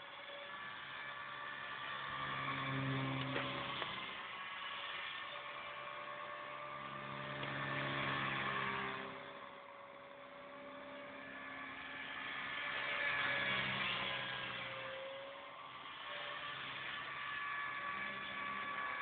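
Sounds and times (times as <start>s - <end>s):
rc helicopter motor whine: 0.0s - 19.0s.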